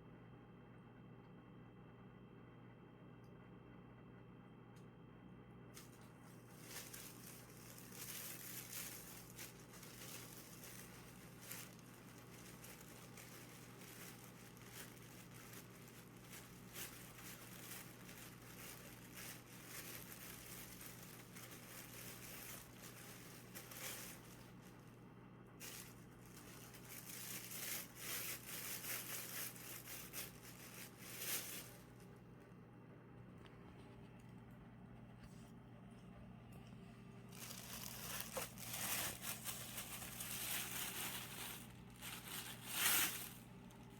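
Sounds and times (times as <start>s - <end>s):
steady low hum: 0.0s - 43.9s
rustling and crinkling: 5.8s - 32.5s, 33.3s - 43.9s.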